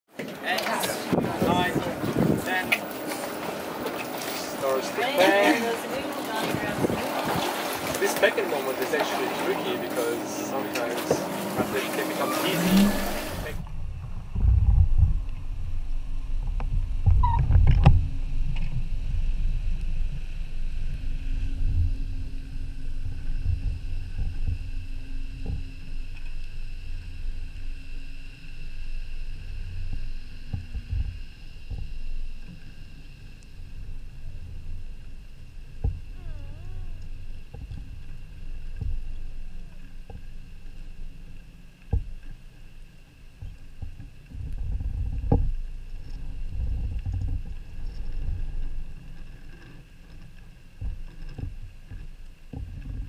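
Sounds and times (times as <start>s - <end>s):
underwater low rumble: 0.8s - 53.0s.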